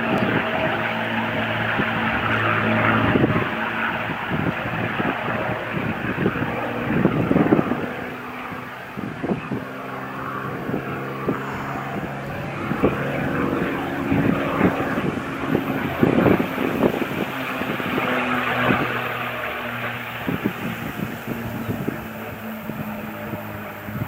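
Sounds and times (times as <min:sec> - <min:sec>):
propeller aircraft engine: 0:00.0 - 0:24.0.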